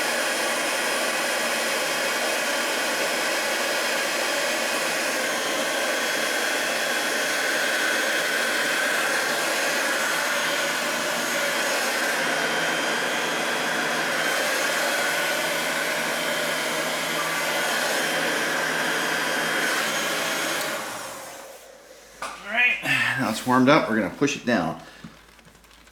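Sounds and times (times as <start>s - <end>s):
heat gun blowing: 0.0s - 25.9s.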